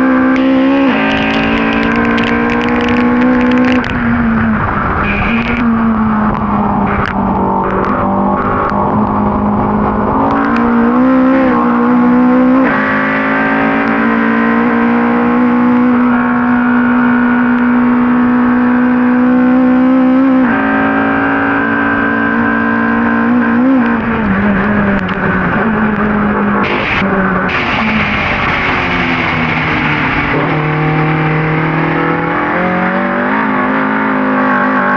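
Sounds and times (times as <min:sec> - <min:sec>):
race car engine at high revs: 0:00.0 - 0:34.9.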